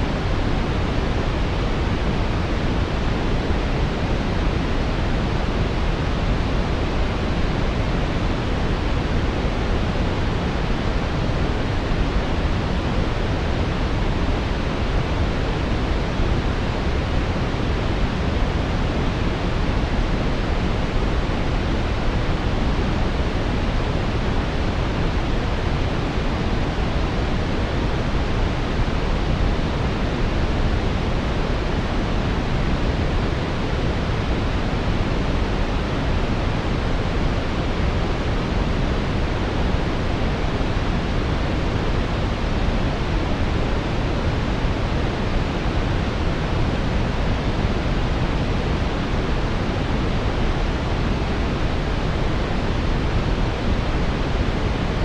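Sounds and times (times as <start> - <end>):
brown noise rushing hiss: 0.0 - 55.0.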